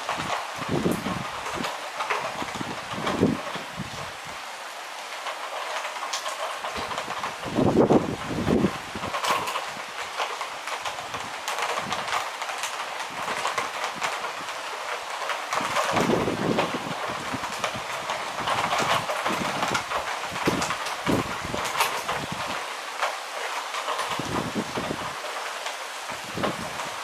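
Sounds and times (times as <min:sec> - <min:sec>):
heavy rain falling: 0:00.0 - 0:27.0
raindrops ticking close by: 0:00.0 - 0:27.0.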